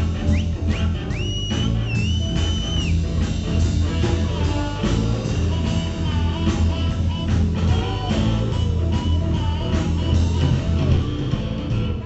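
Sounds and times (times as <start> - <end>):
electric guitars: 0.0 - 12.0
harmonica: 0.0 - 12.0
saxophone: 0.0 - 12.0
steady drum beat: 0.0 - 12.0.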